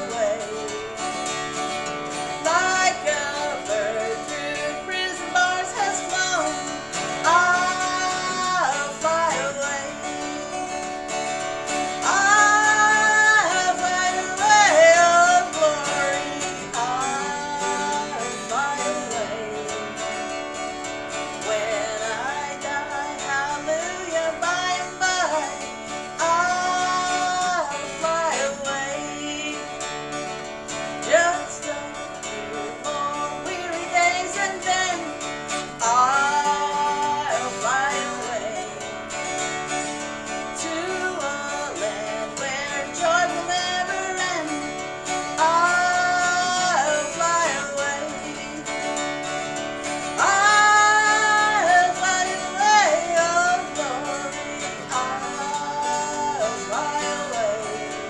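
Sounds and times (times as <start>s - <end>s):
acoustic guitar strumming: 0.0s - 58.0s
woman singing: 0.0s - 58.0s.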